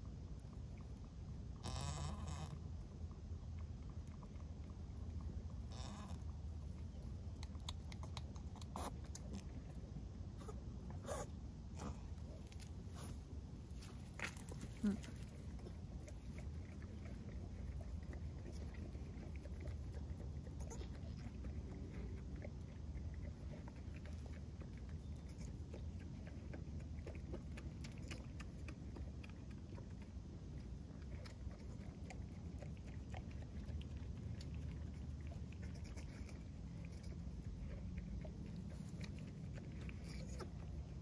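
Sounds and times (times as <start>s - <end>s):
low steady rumble: 0.0s - 41.0s.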